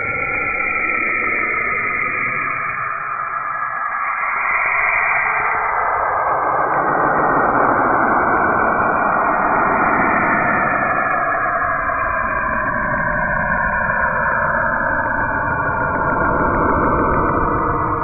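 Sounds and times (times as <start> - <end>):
eerie hiss and rush: 0.0 - 18.0.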